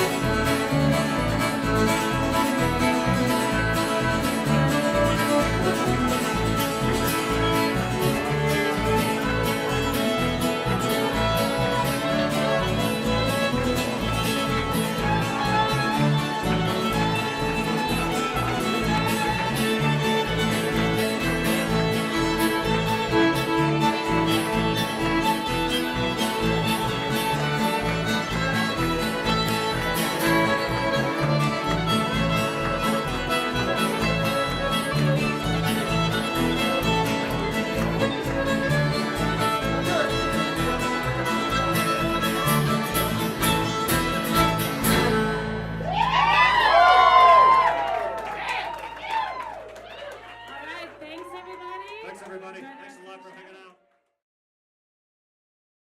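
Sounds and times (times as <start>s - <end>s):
mandolin: 0.0s - 46.0s
strummed guitar: 0.0s - 46.0s
upright bass: 0.0s - 47.2s
fiddles playing melody: 0.0s - 47.4s.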